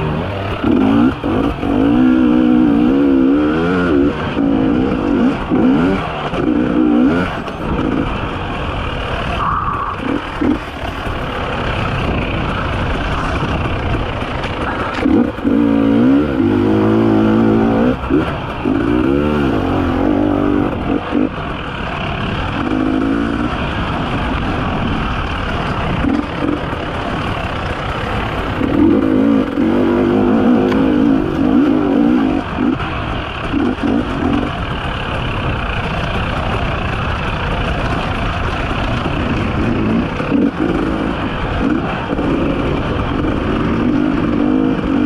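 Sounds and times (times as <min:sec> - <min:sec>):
motorcycle engine revving: 0:00.0 - 0:45.0
steady rushing noise: 0:00.0 - 0:45.0.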